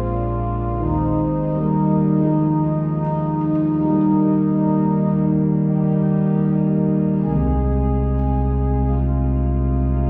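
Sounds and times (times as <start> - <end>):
church organ playing: 0.0 - 10.0.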